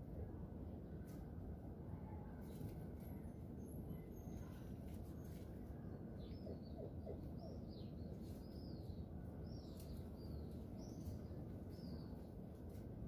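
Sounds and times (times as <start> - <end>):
small birds chirping: 2.4 - 12.9.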